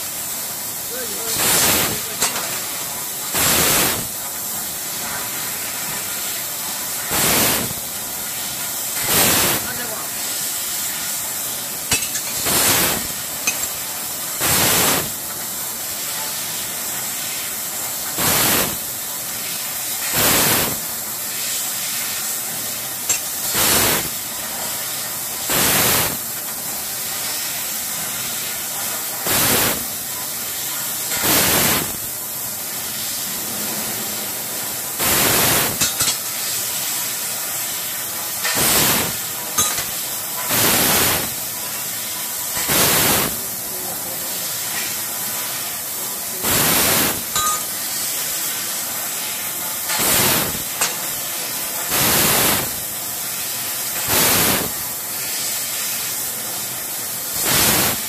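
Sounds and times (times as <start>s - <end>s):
laser cutting machine hissing: 0.0s - 58.0s.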